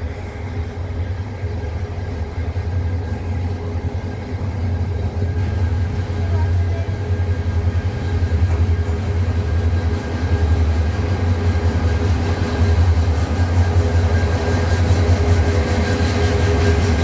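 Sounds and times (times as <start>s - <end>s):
locomotive engine rumble: 0.0s - 17.0s.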